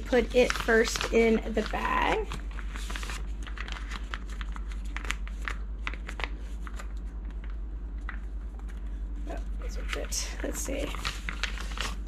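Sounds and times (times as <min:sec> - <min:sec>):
piping bag rustling: 0:00.0 - 0:12.0
steady low hum: 0:00.0 - 0:12.0.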